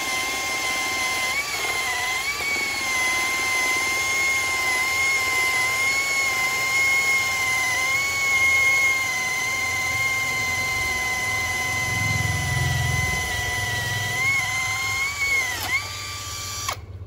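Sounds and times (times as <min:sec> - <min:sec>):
cordless drill boring into wood: 0:00.0 - 0:17.0.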